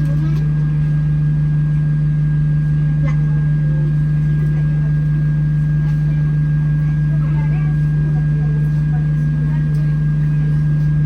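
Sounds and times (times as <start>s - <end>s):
bus engine low drone: 0.0s - 11.0s.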